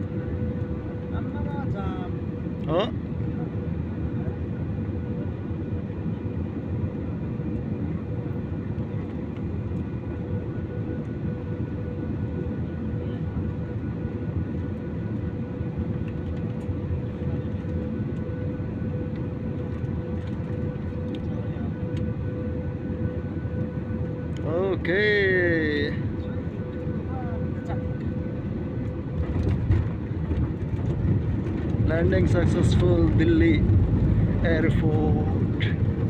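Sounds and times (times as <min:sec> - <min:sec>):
constant hum tone: 0:00.0 - 0:36.0
jet engines drone: 0:00.0 - 0:36.0.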